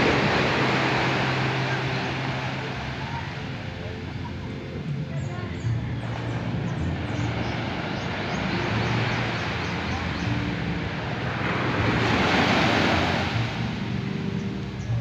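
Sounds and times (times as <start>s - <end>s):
small waves breaking on shore: 0.0s - 3.9s, 6.0s - 15.0s.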